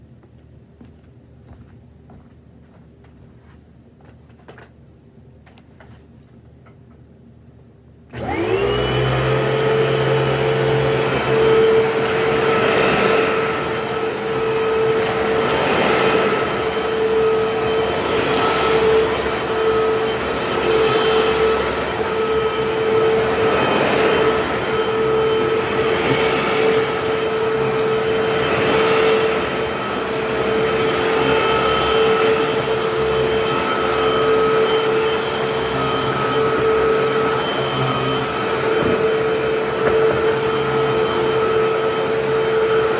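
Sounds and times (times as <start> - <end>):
vacuum cleaner motor whine: 8.1 - 42.9.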